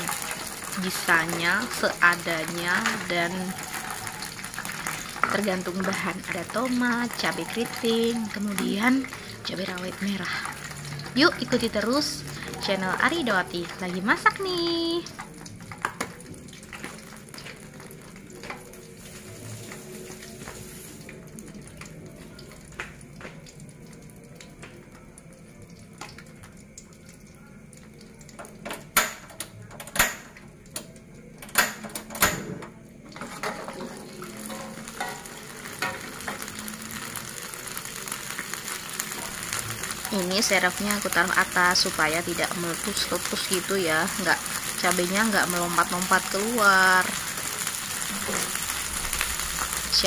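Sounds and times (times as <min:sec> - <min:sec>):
oil sizzling in a wok: 0:00.0 - 0:50.0.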